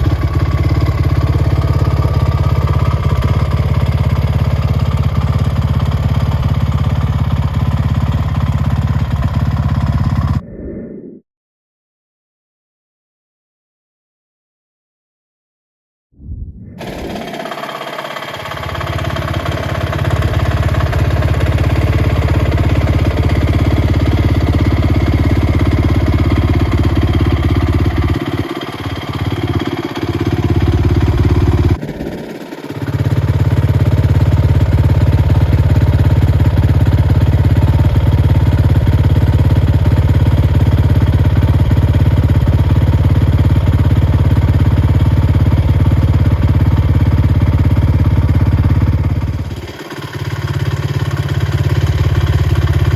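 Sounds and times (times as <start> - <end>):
quad engine running: 0.0 - 10.4, 16.8 - 52.9.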